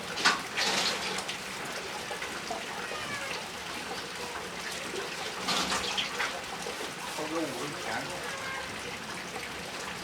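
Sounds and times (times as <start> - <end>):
water trickling and splashing: 0.0 - 10.0.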